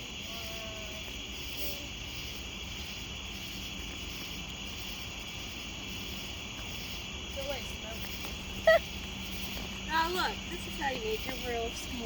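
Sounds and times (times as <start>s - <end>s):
crickets trilling: 0.0s - 12.0s
faint low outdoor rumble: 0.0s - 12.0s.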